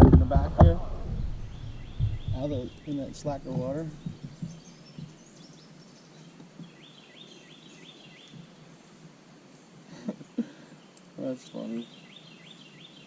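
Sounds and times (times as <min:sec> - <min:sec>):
bird chirping: 0:00.0 - 0:08.5, 0:09.6 - 0:13.0.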